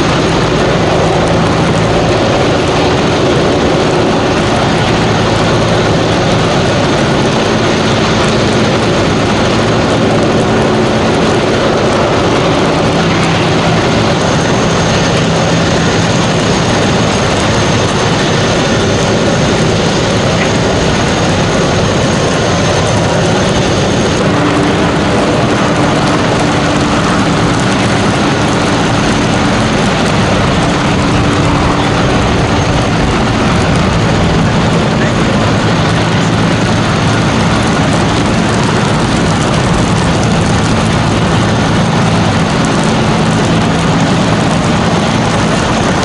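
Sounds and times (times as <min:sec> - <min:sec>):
aircraft engines roaring: 0:00.0 - 0:46.0
faint turbine whine: 0:00.0 - 0:46.0.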